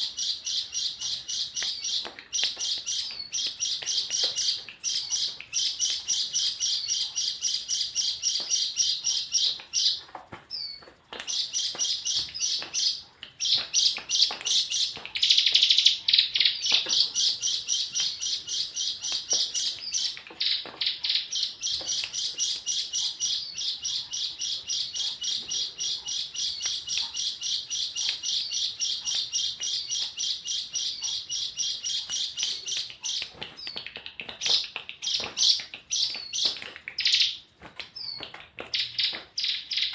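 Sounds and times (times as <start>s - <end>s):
pet bird chirping: 0.0s - 39.9s.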